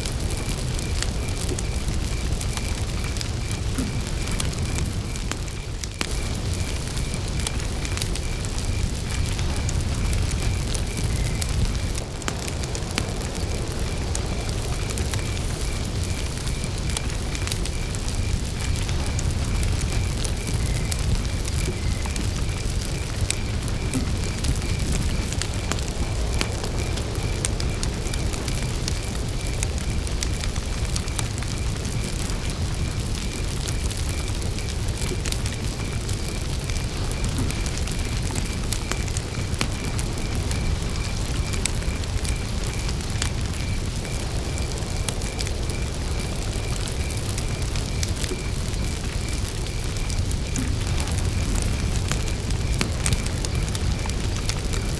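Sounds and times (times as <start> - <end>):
campfire crackling and popping: 0.0 - 54.9
cricket chirping: 0.0 - 54.9
low rumble of flames: 0.0 - 54.9.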